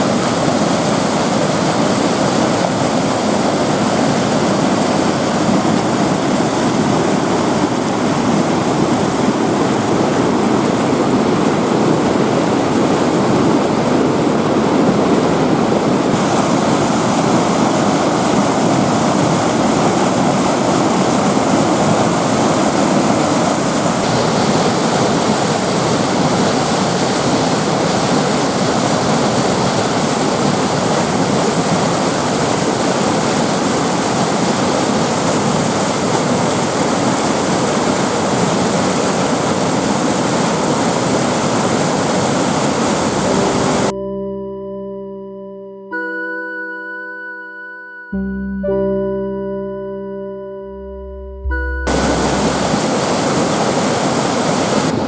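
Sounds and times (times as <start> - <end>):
river rapids over waterfall: 0.0 - 43.9, 51.9 - 55.0.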